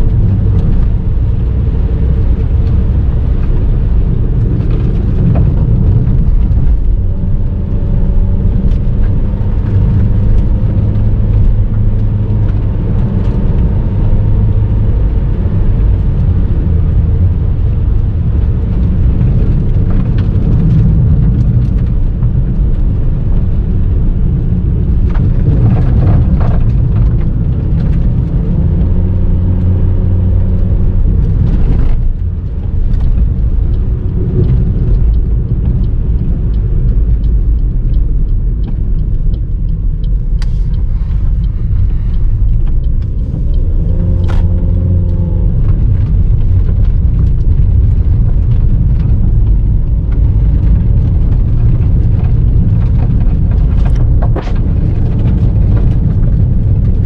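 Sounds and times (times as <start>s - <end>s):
engine and tyres rumbling on gravel: 0.0s - 57.0s.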